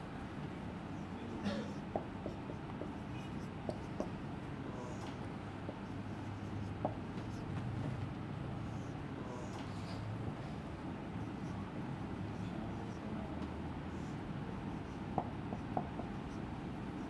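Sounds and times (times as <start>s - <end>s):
marker scratching on a whiteboard: 0.8s - 17.0s.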